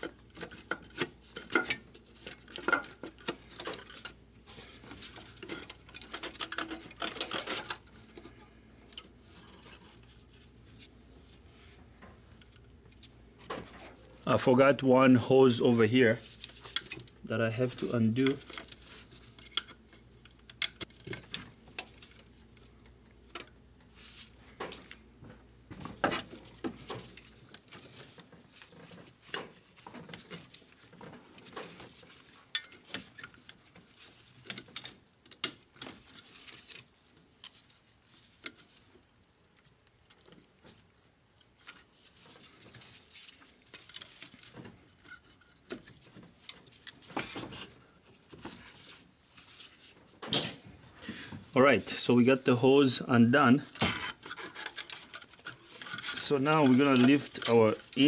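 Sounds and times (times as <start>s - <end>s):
hands working hose fittings: 0.0s - 58.0s.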